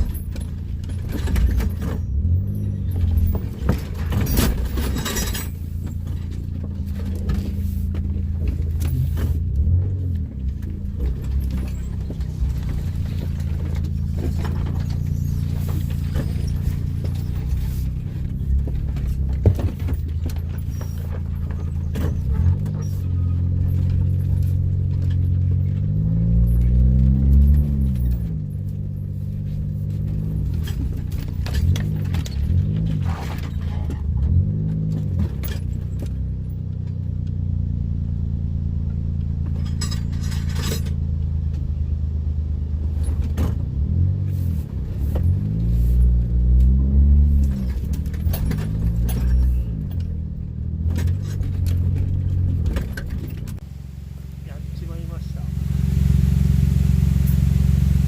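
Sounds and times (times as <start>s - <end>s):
vehicle engine revving: 0.0s - 41.9s, 42.6s - 58.0s.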